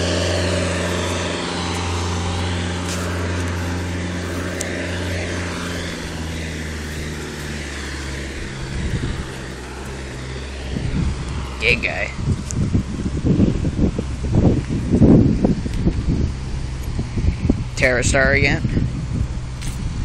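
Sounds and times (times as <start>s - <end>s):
forklift engine droning: 0.0s - 20.0s.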